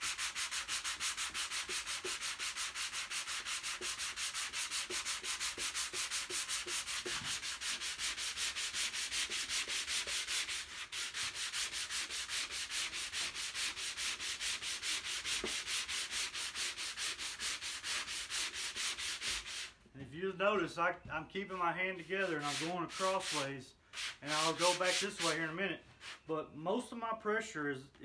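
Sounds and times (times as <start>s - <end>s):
sandpaper rasping: 0.0s - 19.8s, 22.2s - 26.3s.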